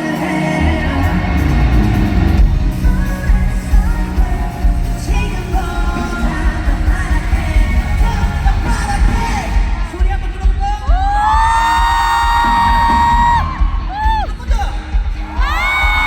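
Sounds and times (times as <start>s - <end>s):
heavy bass and drum beat: 0.0s - 16.0s
live pop-rock band music: 0.0s - 16.0s
person singing: 0.0s - 16.0s.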